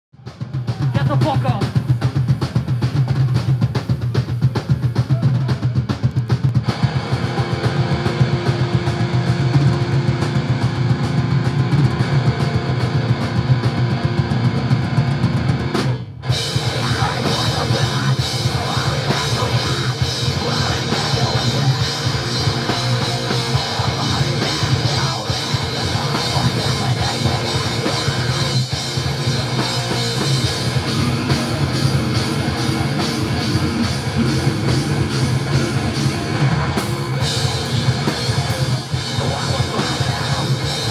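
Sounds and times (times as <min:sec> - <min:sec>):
distorted electric guitars: 0:00.2 - 0:40.9
pounding drum kit: 0:00.2 - 0:40.9.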